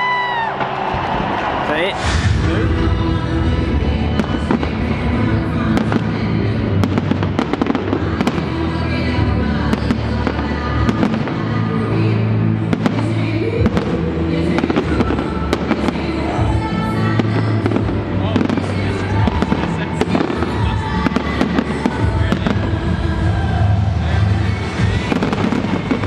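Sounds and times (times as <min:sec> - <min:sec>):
fireworks bangs and crackling: 0:00.0 - 0:26.0
music: 0:00.0 - 0:26.0.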